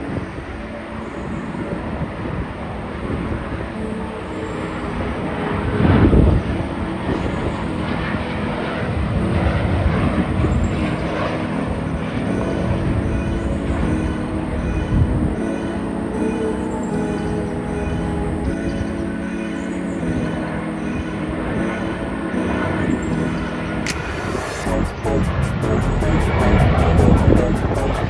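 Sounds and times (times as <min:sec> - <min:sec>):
airliner engines running: 0:00.0 - 0:28.0.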